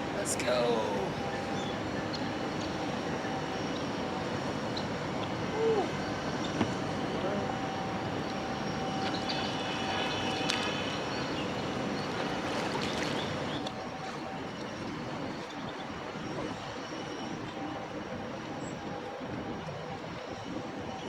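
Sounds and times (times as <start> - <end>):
faint constant hum: 0.0 - 21.0.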